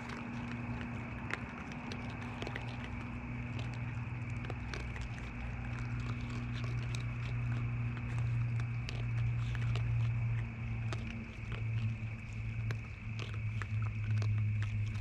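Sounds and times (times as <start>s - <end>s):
raccoons crunching seed: 0.0s - 15.0s
steady low hum: 0.0s - 15.0s.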